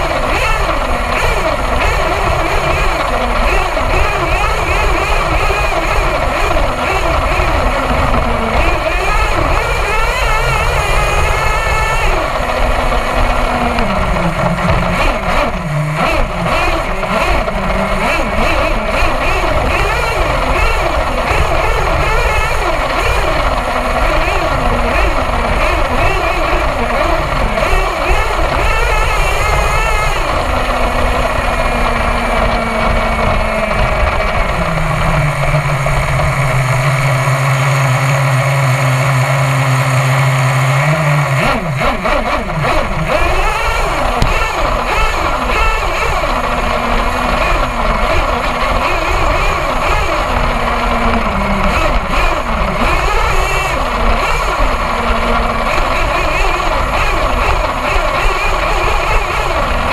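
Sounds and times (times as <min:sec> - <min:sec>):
rc truck nitro engine: 0:00.0 - 0:59.9.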